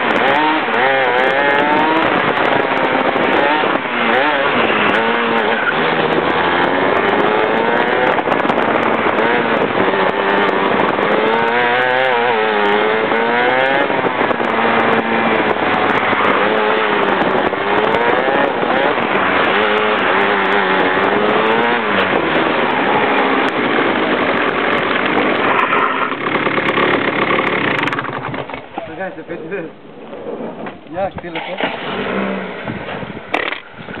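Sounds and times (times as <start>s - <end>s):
kart engine revving: 0.0s - 29.6s, 30.2s - 34.0s.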